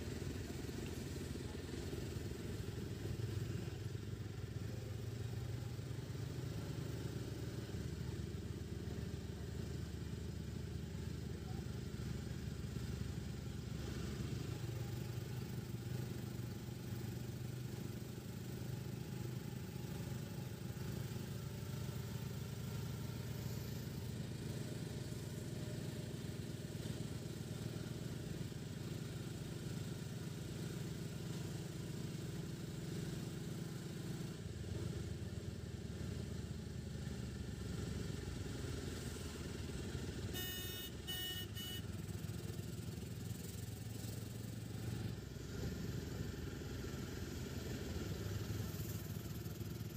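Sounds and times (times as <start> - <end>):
auto rickshaw engine running: 0.0 - 49.9
road and traffic noise: 0.0 - 49.9.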